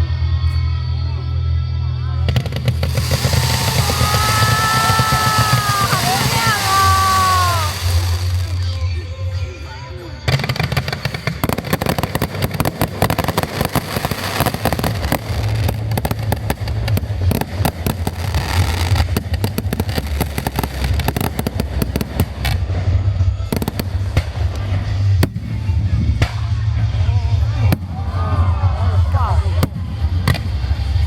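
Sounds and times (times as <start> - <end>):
fireworks bangs and crackles: 2.3 - 9.1, 10.2 - 31.0.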